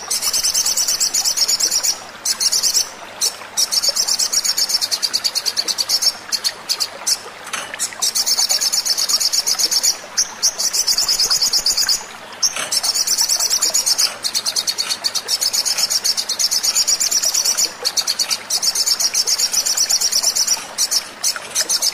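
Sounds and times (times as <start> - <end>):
bird song high-pitched trills: 0.0 - 7.2, 7.8 - 21.9.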